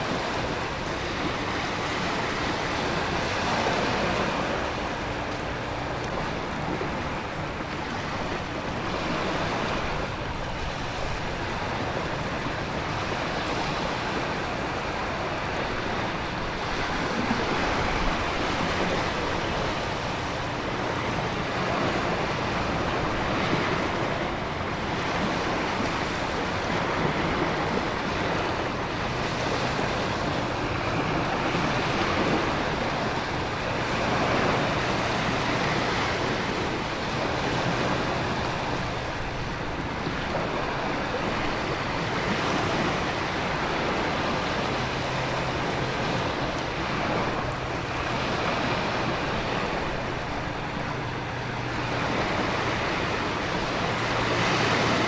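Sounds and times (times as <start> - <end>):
ocean waves surging: 0.0 - 55.0
wind: 0.0 - 55.0.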